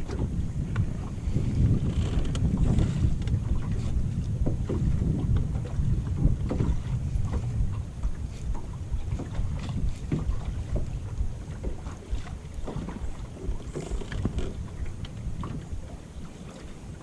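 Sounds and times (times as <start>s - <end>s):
waves slapping boat hull: 0.0s - 17.0s
wind buffeting microphone: 0.0s - 17.0s.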